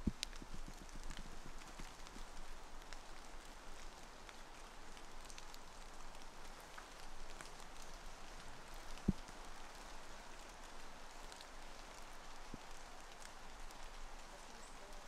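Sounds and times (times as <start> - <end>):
light rain hissing: 0.0 - 15.0.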